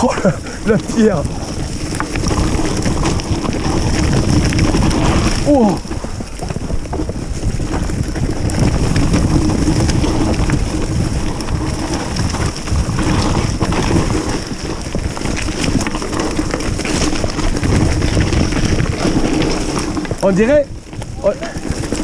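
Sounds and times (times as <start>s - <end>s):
bike rattling: 0.0s - 22.0s
tyres rolling over loose stones: 0.0s - 22.0s
wind noise on microphone: 0.0s - 22.0s.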